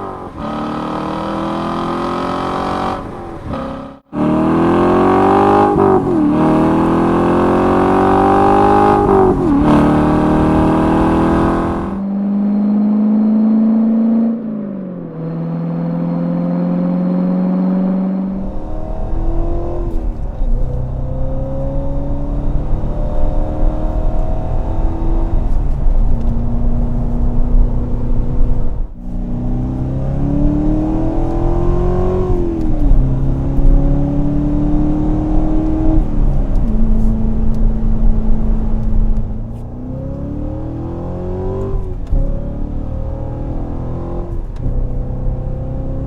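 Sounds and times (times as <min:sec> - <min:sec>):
sports car engine accelerating: 0:00.0 - 0:46.0.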